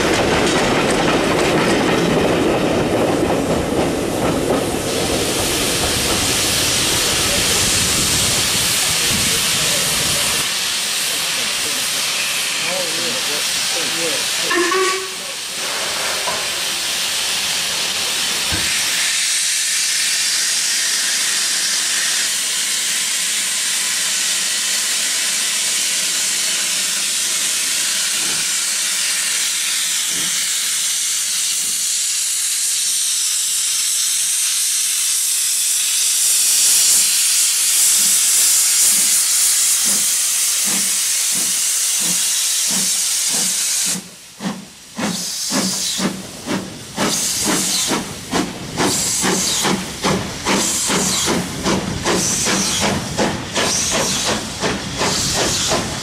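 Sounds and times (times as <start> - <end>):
steam locomotive exhaust beats: 0.0 - 29.2, 29.8 - 56.0
steam hissing: 3.4 - 56.0.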